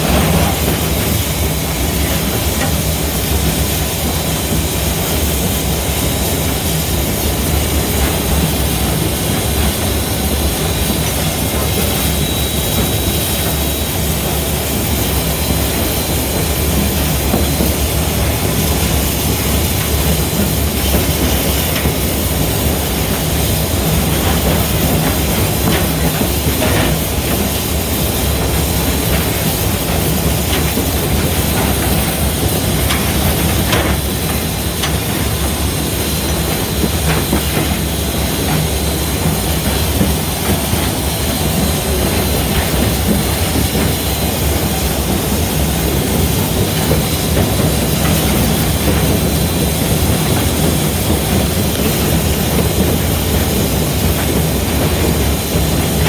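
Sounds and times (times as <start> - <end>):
steam hiss: 0.0 - 56.0
steam locomotive running gear: 0.0 - 56.0.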